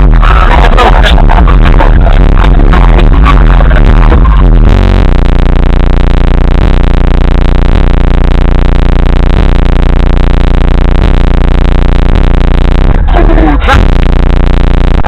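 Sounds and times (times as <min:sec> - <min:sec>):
loud low bass tone from subwoofers: 0:00.0 - 0:15.0.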